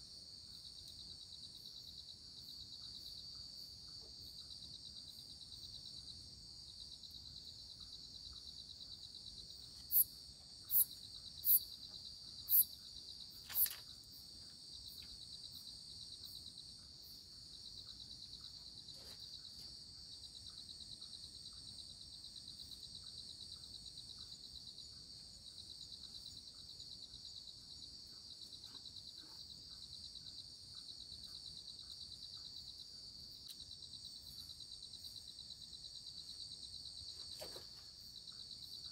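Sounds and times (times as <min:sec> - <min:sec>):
night insects chirring: 0:00.0 - 0:38.9.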